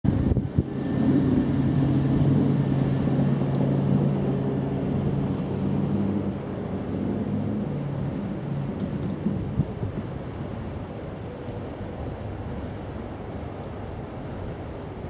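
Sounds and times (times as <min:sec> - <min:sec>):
wind noise on microphone: 0:00.0 - 0:15.0
ship engine hum: 0:00.1 - 0:15.0.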